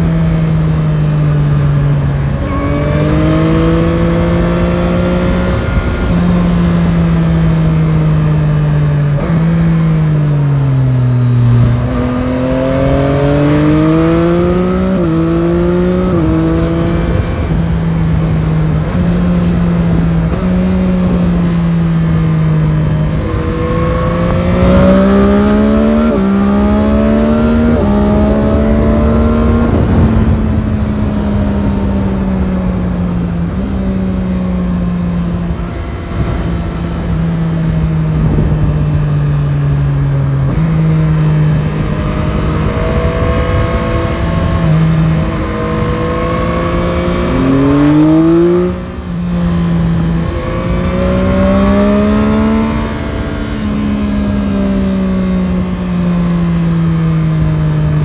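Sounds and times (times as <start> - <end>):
gear changes: 0.0 - 58.0
motorcycle engine revving: 0.0 - 58.0.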